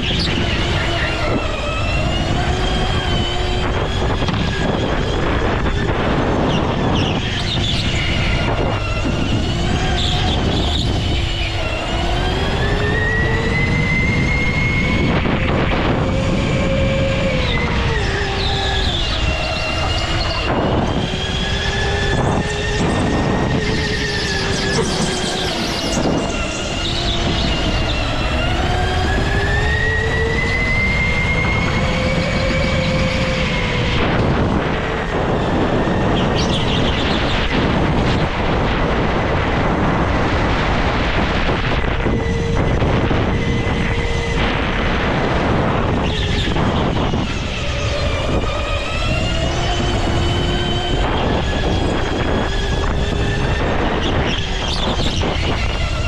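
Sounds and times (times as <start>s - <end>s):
go-kart motor whining: 0.0s - 56.0s.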